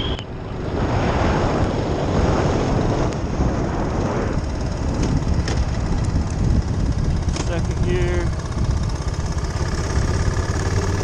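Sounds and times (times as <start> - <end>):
wind rushing over microphone: 0.0 - 11.0
motorcycle engine running: 1.7 - 11.0.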